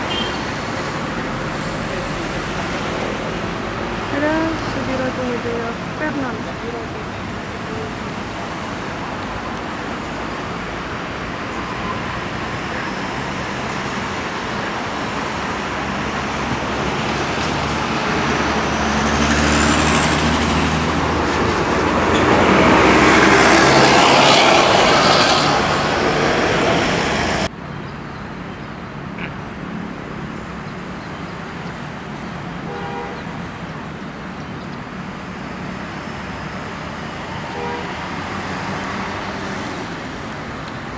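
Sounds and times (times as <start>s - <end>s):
bus passing: 0.0s - 40.9s
road traffic: 0.0s - 40.9s.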